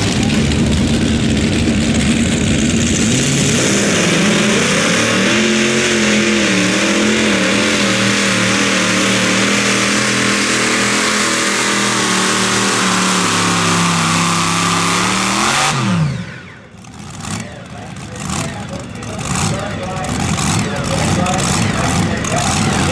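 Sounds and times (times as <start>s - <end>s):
tractor engine running under load: 0.0s - 4.2s, 5.6s - 22.9s.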